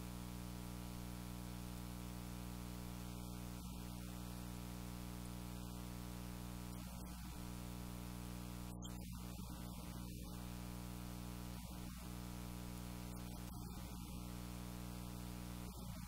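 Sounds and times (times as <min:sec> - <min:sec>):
steady buzzing hum: 0:00.0 - 0:16.0.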